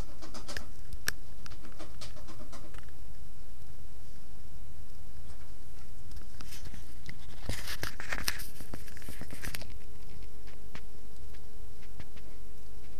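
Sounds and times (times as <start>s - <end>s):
crinkling rustling with clicks: 0.0s - 3.0s, 5.3s - 12.9s
steady low hum: 0.0s - 12.9s.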